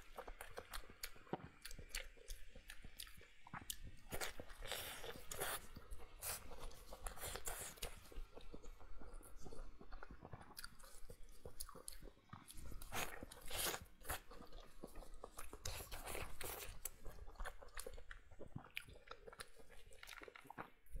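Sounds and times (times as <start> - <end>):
close chewing with wet mouth clicks: 0.0 - 21.0.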